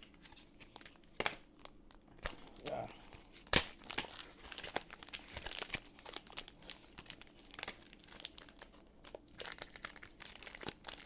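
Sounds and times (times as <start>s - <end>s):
foil wrappers crinkling and tearing: 0.0s - 11.0s.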